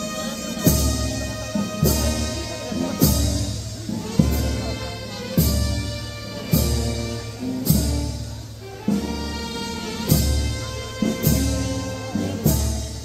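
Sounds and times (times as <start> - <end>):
band playing slow march: 0.0 - 13.0.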